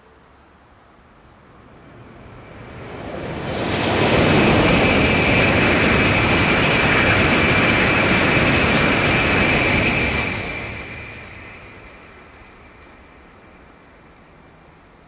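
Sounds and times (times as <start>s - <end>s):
steady high whine: 0.3s - 15.0s
train rushing past: 0.9s - 15.0s.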